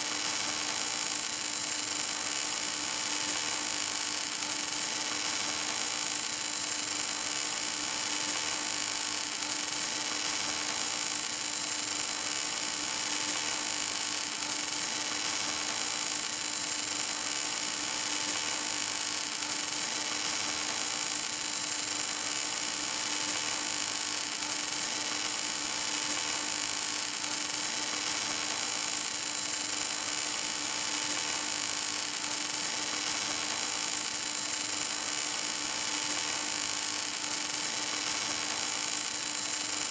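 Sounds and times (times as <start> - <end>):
welding arc hissing: 0.0 - 7.1, 12.9 - 39.9.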